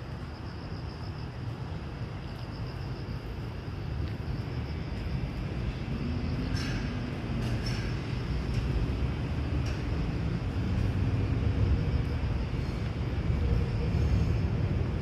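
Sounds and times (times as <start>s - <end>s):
insects chirping trill: 0.0s - 15.0s.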